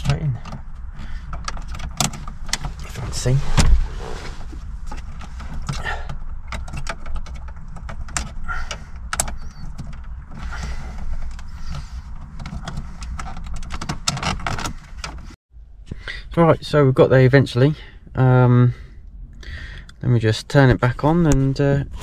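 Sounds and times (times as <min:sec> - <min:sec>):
steady low rumble: 0:00.0 - 0:14.1, 0:14.7 - 0:22.0.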